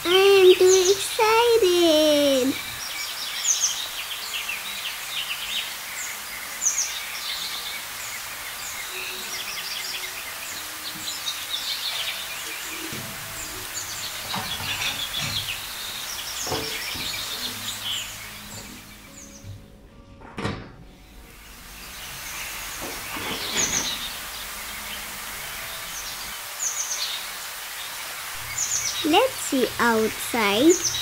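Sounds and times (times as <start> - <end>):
small birds chirping: 0.0 - 19.7, 21.1 - 31.0.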